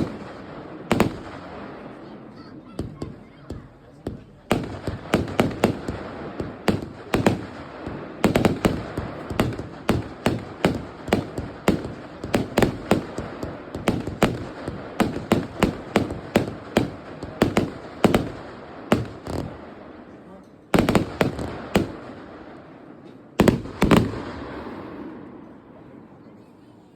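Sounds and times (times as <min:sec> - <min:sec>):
firework bangs: 0:00.0 - 0:25.6.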